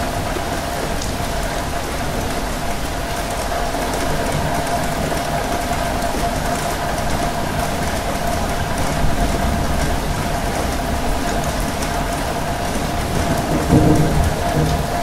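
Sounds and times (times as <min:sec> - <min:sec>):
rain pattering on windows: 0:00.0 - 0:15.0
train carriage rumble: 0:00.0 - 0:15.0.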